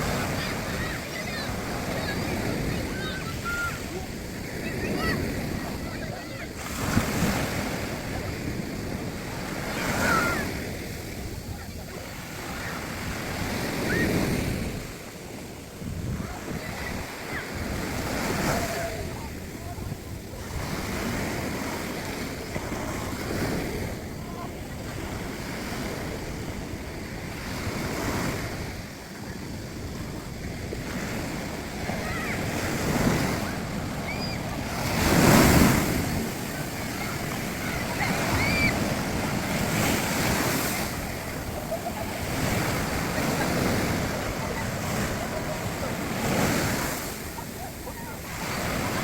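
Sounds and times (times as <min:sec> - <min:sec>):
sea surf breaking: 0:00.0 - 0:49.0
wind buffeting microphone: 0:00.0 - 0:49.0.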